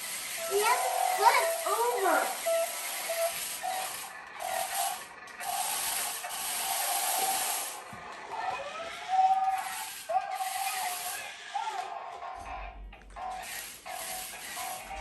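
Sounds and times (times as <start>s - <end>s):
toy car motor whirring: 0.0s - 15.0s.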